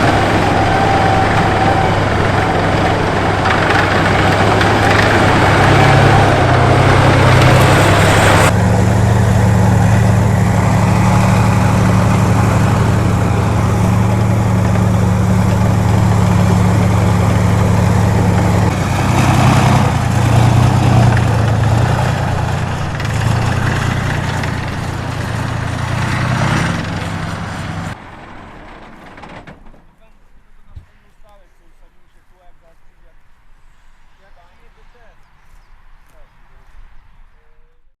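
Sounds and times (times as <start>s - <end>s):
diesel engine running: 0.0s - 30.6s.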